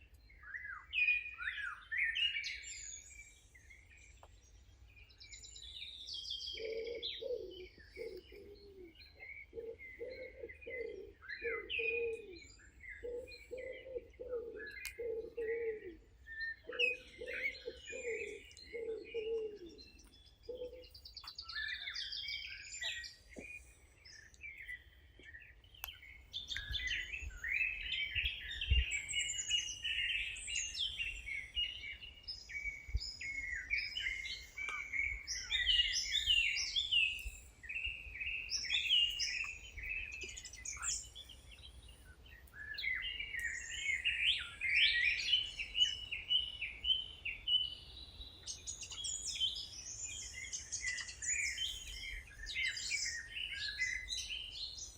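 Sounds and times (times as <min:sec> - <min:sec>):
birds singing and chirping: 0:00.0 - 0:54.9.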